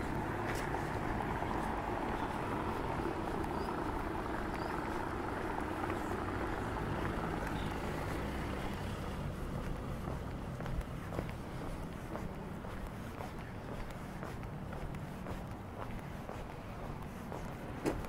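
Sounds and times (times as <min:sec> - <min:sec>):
street noise: 0:00.0 - 0:18.0
vehicle engine humming: 0:00.0 - 0:18.0.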